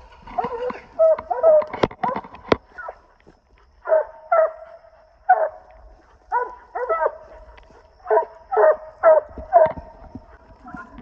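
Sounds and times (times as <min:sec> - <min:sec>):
hounds barking: 0:00.3 - 0:11.0.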